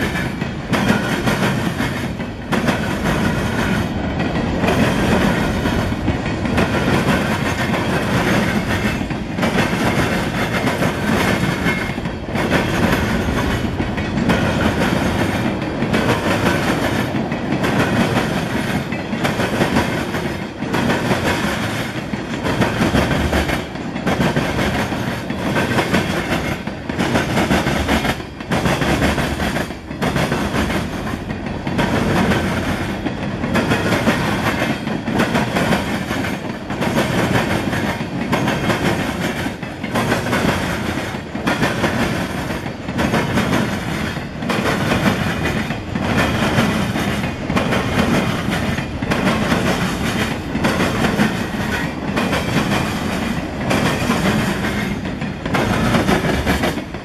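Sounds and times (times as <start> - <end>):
freight train wheels clacking: 0.0 - 57.0.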